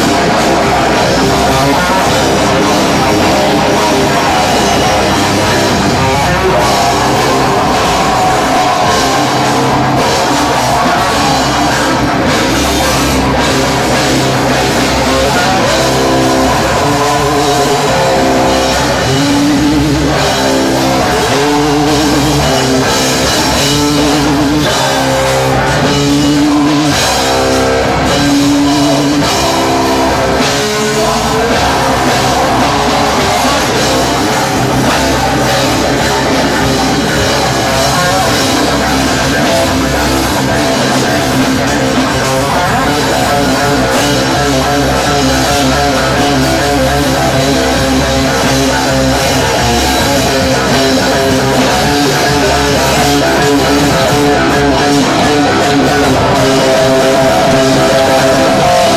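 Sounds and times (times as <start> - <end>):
electric guitar riff: 0.0 - 58.9
live rock band playing: 0.0 - 58.9.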